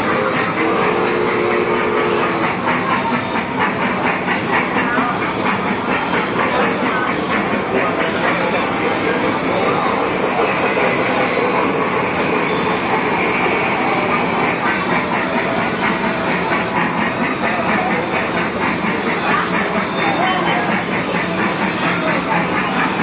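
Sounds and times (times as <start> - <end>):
fast regular clacking: 0.0 - 23.0
mini train rumbling: 0.0 - 23.0.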